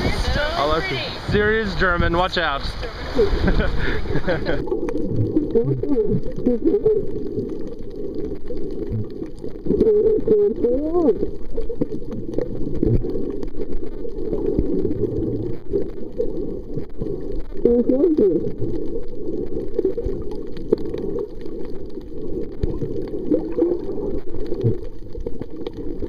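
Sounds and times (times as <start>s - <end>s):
muffled underwater noise: 0.0s - 26.0s.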